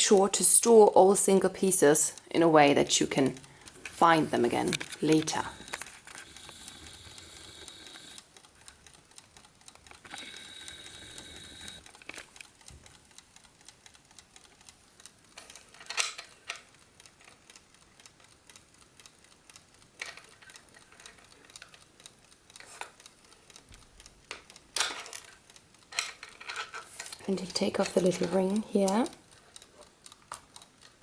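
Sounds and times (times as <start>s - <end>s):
clock parts clicking: 0.0s - 31.0s
clock ticking: 0.0s - 31.0s.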